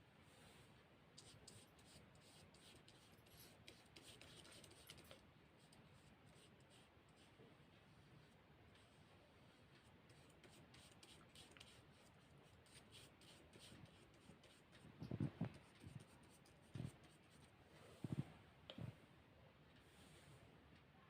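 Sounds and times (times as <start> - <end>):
paintbrush rubbing on paper: 1.2 - 18.3.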